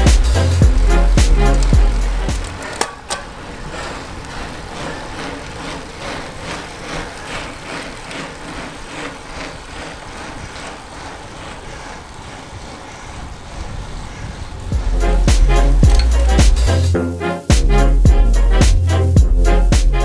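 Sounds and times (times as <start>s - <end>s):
wind rush on microphone: 0.0s - 16.9s
road rumble of bike: 0.0s - 20.0s.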